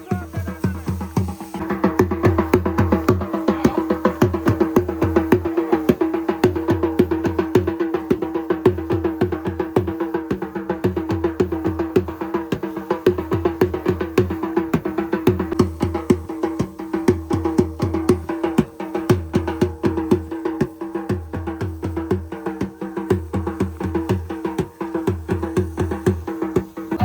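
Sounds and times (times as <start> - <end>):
fast rhythmic drumming: 0.0 - 27.0.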